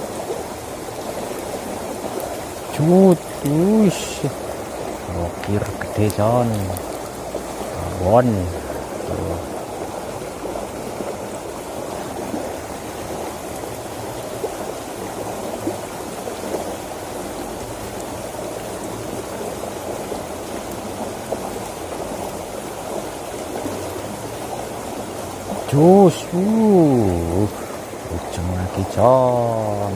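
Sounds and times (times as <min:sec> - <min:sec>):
water rushing in a ditch: 0:00.0 - 0:29.9.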